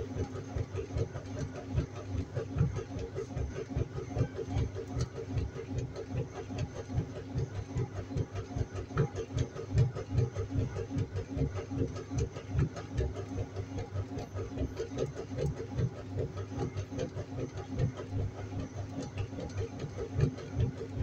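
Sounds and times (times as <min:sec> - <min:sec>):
washing machine running: 0:00.0 - 0:21.0.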